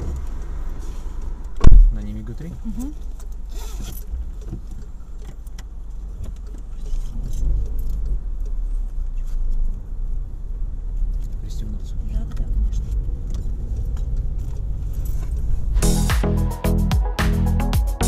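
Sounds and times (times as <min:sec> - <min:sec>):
car engine and road rumble: 0:00.0 - 0:17.8.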